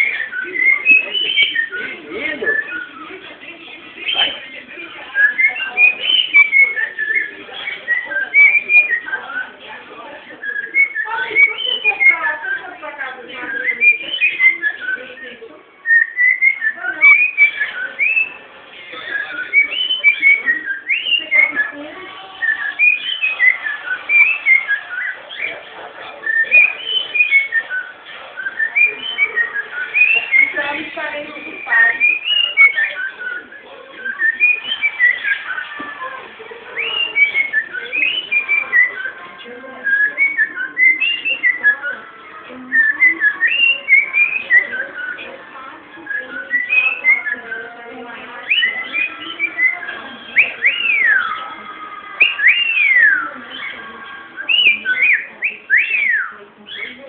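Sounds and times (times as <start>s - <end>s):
cockatiel whistling: 0.0s - 3.3s, 3.9s - 9.6s, 10.2s - 45.4s, 46.0s - 57.0s.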